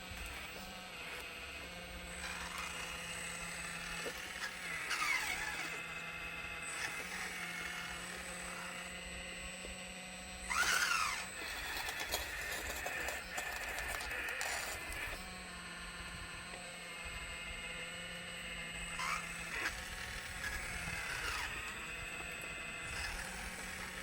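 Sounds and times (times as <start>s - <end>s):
electric motor humming and whining: 0.0s - 24.0s.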